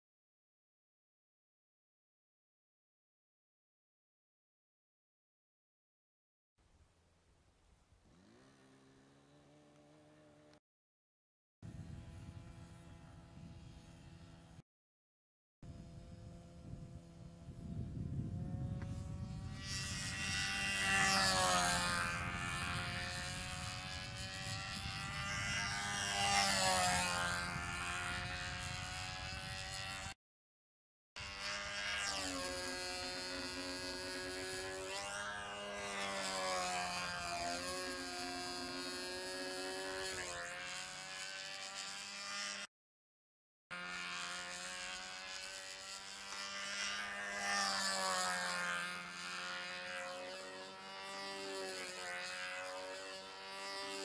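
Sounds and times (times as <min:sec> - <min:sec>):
model airplane engine buzzing: 0:06.6 - 0:10.6, 0:11.6 - 0:14.6, 0:15.6 - 0:30.2, 0:31.2 - 0:42.7, 0:43.7 - 0:54.0.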